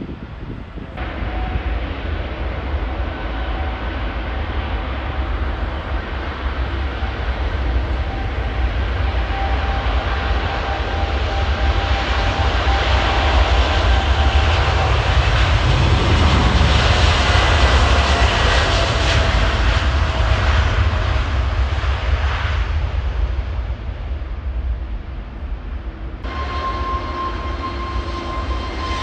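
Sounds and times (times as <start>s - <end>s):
faint jet engine whine: 0.0s - 29.0s
jet engines rumbling: 0.0s - 29.0s.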